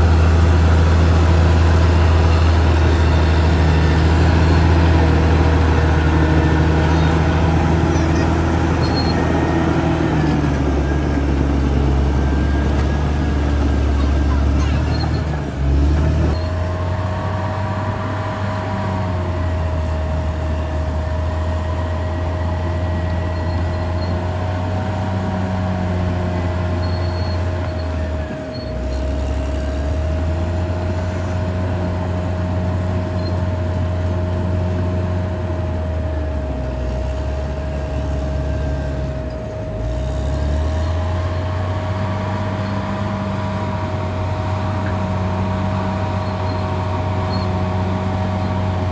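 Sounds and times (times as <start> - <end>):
bulldozer diesel engine under load: 0.0 - 48.9
steady whine: 0.0 - 48.9.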